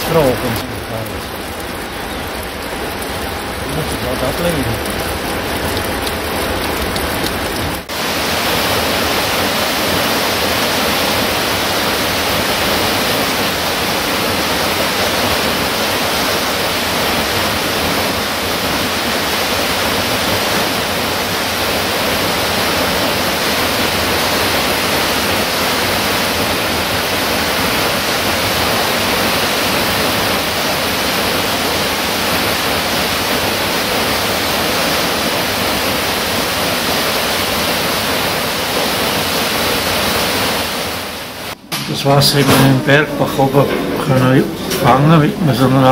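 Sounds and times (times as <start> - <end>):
waterfall and stream rushing: 0.0 - 45.9.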